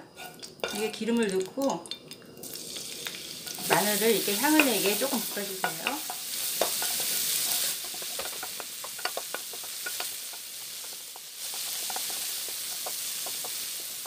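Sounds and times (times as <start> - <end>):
garlic sizzling in oil: 0.0 - 14.0
spatula scraping a pan: 0.1 - 1.0, 3.4 - 13.9.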